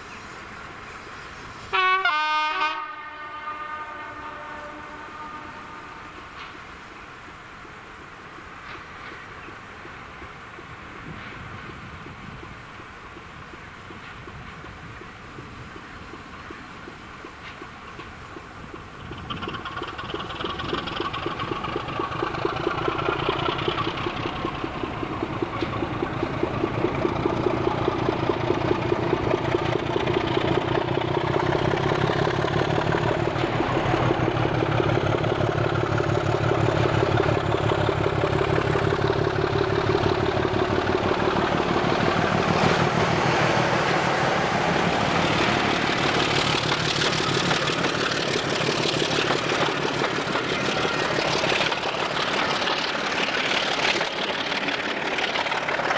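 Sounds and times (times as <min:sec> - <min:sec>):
diesel locomotive engine: 0:00.0 - 0:55.9
train wheels on rails: 0:00.0 - 0:55.9.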